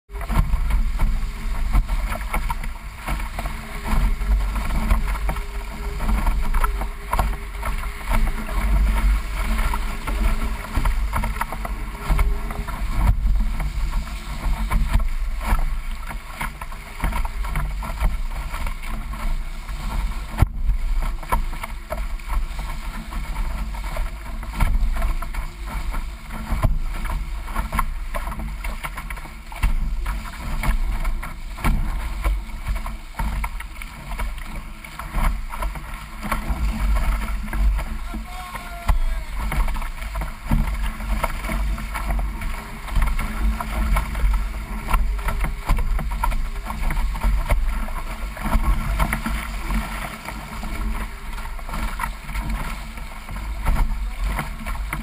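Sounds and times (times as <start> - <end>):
water splashing along boat bow: 0.1 - 55.0.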